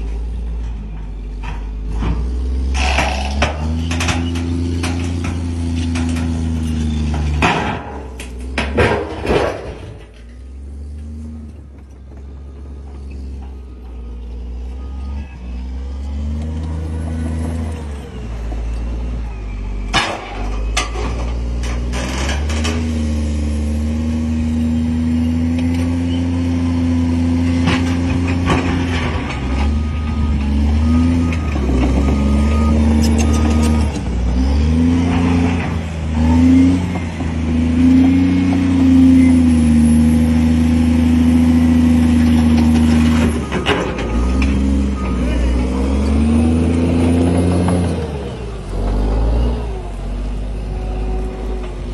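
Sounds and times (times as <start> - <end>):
bulldozer diesel engine under load: 0.0 - 51.9.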